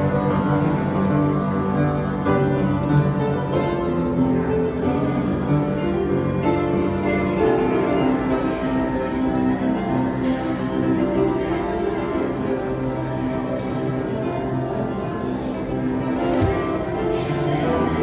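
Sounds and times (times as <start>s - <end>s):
music of sustained notes: 0.0s - 18.0s.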